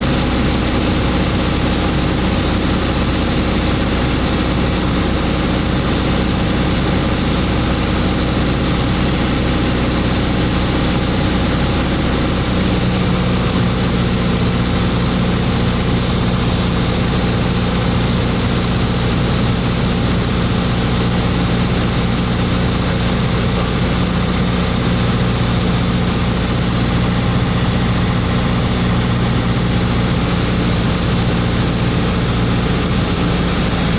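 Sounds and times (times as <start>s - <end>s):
propeller airplane engine drone: 0.0s - 33.9s.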